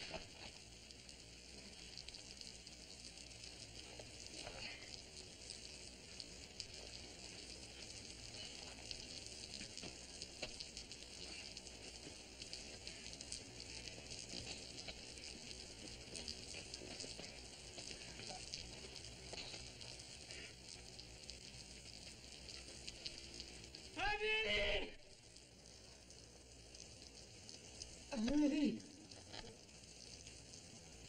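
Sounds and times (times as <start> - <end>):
faint crackles and ticks: 0.0 - 31.0
steady hiss: 0.0 - 31.0.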